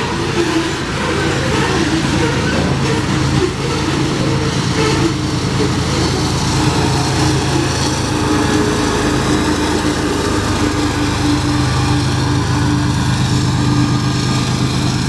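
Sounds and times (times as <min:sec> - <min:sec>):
diesel locomotive engine: 0:00.0 - 0:15.0
freight cars rumbling on rails: 0:00.0 - 0:15.0.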